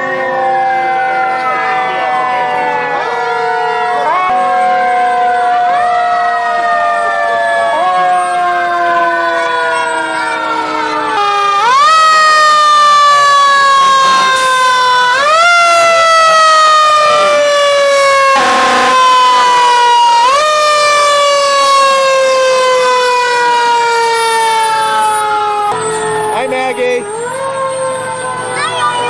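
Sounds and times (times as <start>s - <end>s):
fire truck siren wailing: 0.0s - 29.0s.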